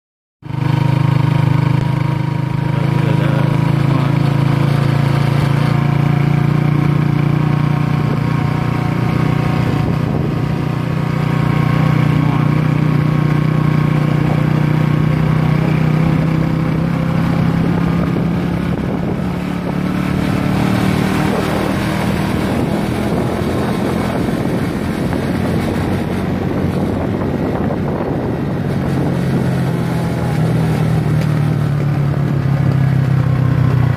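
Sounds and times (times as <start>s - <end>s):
tyre and road noise: 0.4s - 33.9s
vehicle engine humming: 0.4s - 33.9s.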